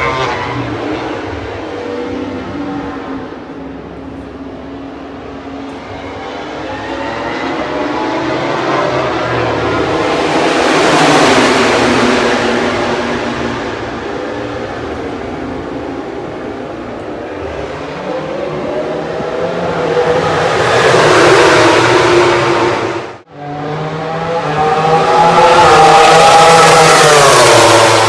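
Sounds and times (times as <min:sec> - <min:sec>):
racing motorcycle engines: 0:00.0 - 0:28.0.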